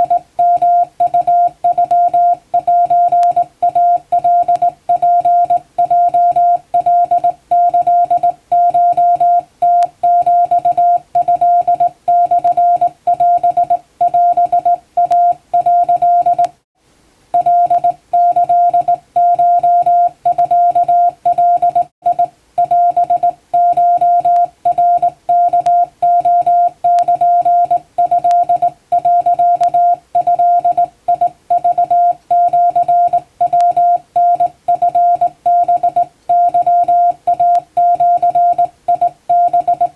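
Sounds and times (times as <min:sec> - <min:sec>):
morse code tone: 0:00.0 - 0:16.5, 0:17.4 - 0:39.9.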